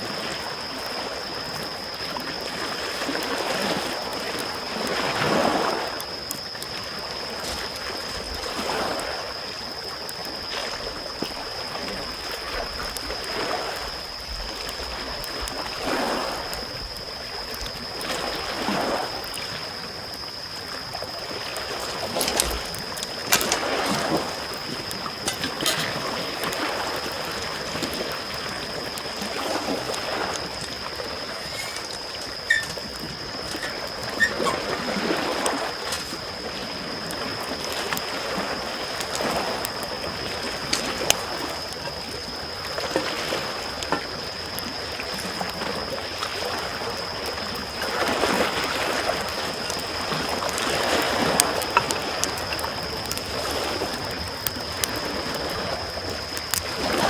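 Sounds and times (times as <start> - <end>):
campfire crackling and popping: 0.0 - 57.0
small waves lapping on shore: 0.0 - 57.0.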